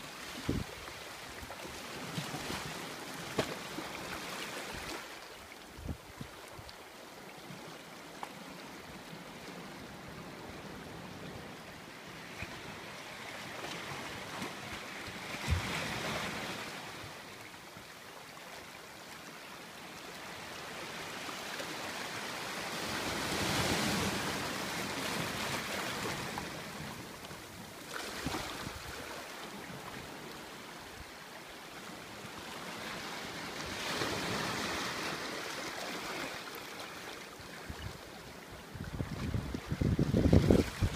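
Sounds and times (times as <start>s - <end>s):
small waves washing over rocks: 0.0s - 5.3s, 7.4s - 17.4s, 20.0s - 40.9s.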